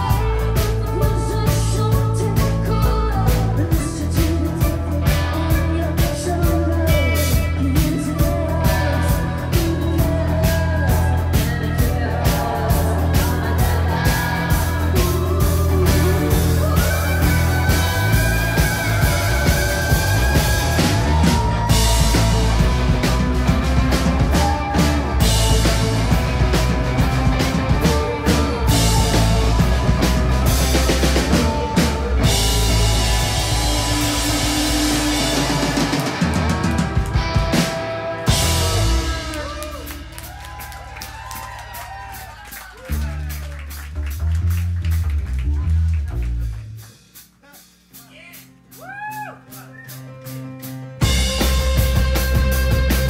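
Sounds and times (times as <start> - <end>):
electric guitars: 0.0 - 42.1, 50.0 - 53.0
drums keeping a steady beat: 0.0 - 53.0
indie rock band playing: 0.0 - 53.0.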